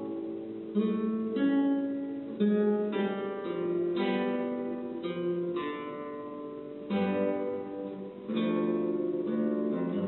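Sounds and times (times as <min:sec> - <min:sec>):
classical guitar chords: 0:00.0 - 0:10.0.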